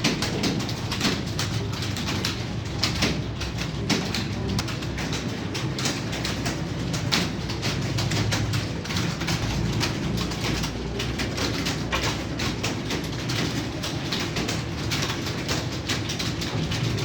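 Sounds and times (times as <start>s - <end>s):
fast keyboard typing: 0.0s - 17.0s.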